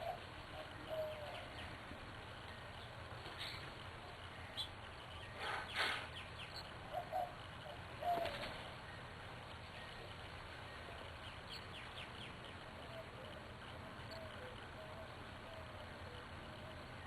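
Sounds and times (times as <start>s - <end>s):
birds calling low notes: 0.0s - 17.0s
steady low background hum: 0.0s - 17.0s.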